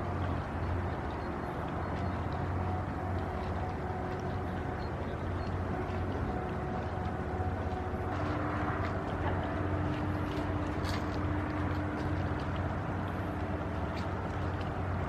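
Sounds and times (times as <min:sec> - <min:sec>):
ship diesel engine droning: 0:00.0 - 0:15.0.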